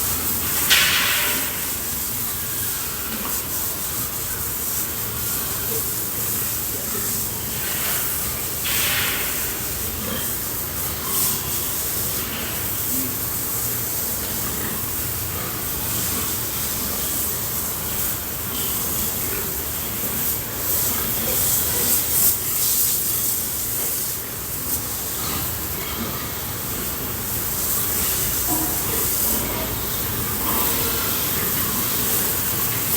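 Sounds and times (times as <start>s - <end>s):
water spraying from hose: 0.0s - 32.9s.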